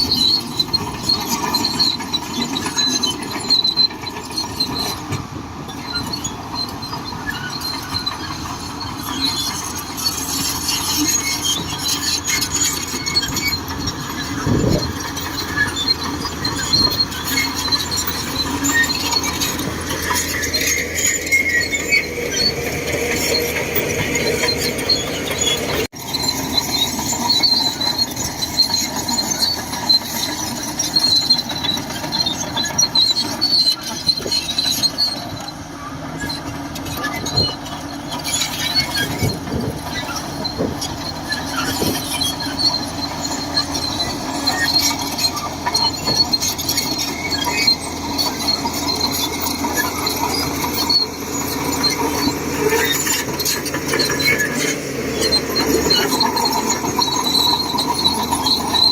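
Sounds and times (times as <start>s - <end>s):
bulldozer engine under load: 0.0s - 58.9s
steel tracks squealing and clanking: 0.0s - 58.9s.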